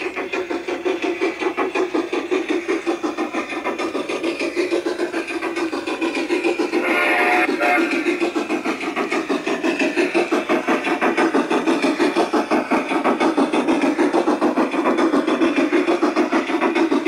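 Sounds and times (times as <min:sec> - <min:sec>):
model steam train chuffing: 0:00.0 - 0:17.0.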